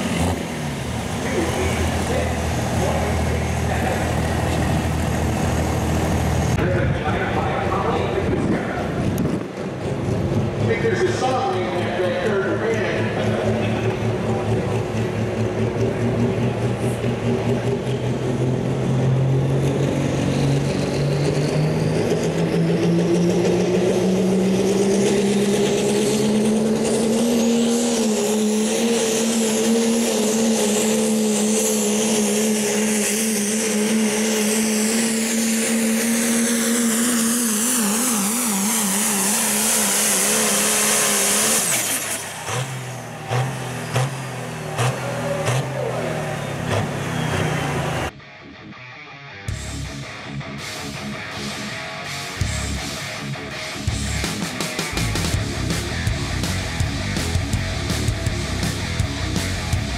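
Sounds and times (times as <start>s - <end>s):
diesel engine under load: 0.0s - 48.2s, 52.4s - 59.9s.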